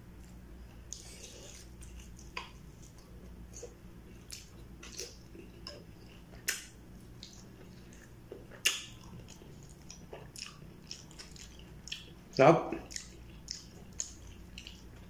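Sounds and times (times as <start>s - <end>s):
person chewing with lip smacks: 0.2s - 15.0s.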